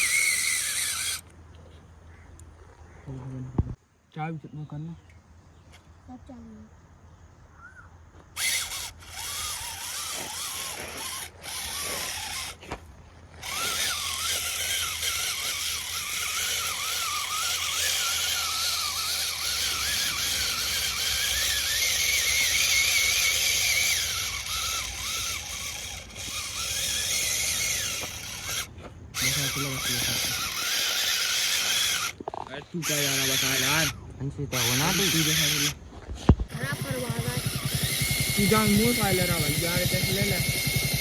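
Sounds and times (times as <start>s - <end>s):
small electric motor whining: 0.0s - 1.3s, 8.2s - 41.0s.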